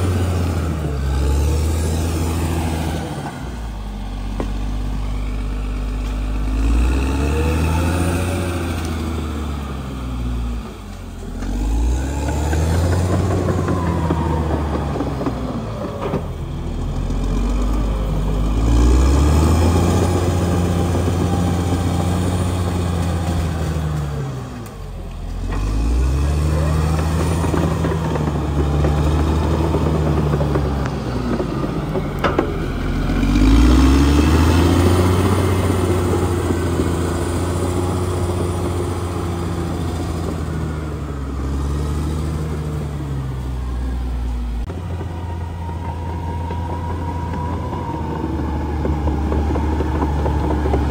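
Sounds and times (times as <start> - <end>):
bulldozer diesel engine working: 0.0 - 50.9.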